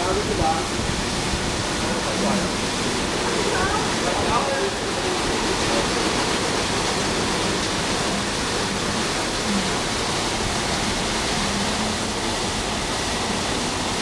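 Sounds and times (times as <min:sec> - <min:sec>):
car wash spraying water: 0:00.0 - 0:14.0.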